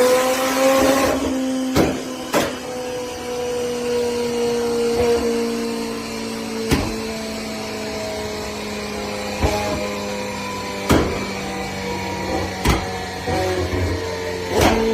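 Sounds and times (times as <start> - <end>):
sports car engine droning: 0.0 - 14.9.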